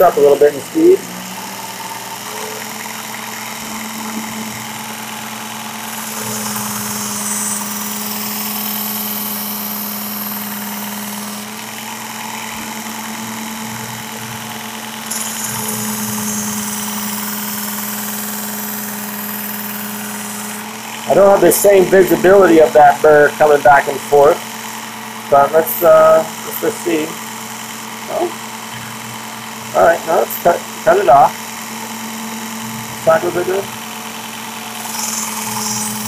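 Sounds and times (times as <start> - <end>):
belt sharpener motor humming: 0.0 - 36.0
blade grinding on abrasive belt: 0.0 - 36.0.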